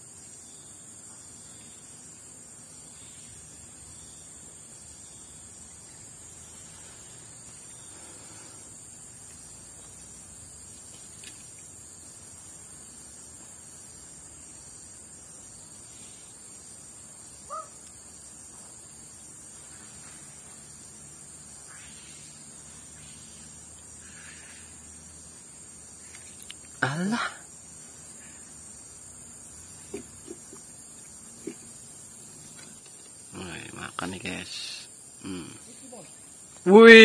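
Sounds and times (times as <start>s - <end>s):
insects chorus: 0.0s - 37.0s.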